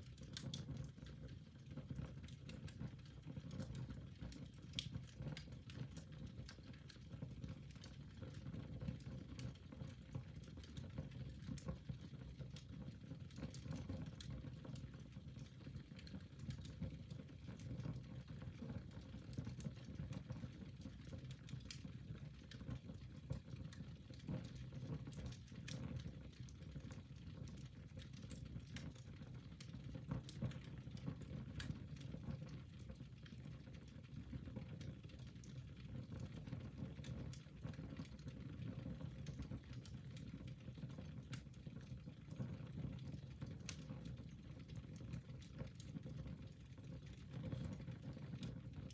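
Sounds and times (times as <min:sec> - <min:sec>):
fire crackling and popping: 0:00.0 - 0:48.9
low rumble of flames: 0:00.0 - 0:48.9.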